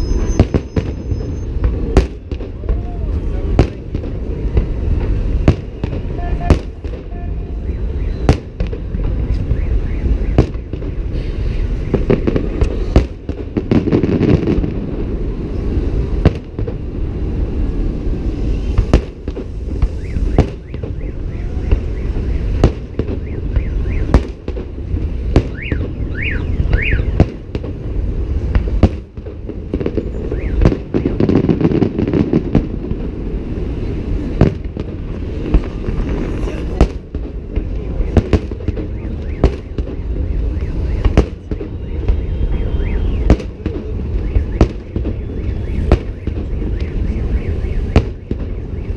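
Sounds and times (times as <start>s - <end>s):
firework whistles: 0.0s - 3.3s, 5.5s - 16.2s, 17.9s - 29.0s, 29.6s - 32.4s, 37.7s - 48.9s
firework bangs: 0.0s - 48.9s.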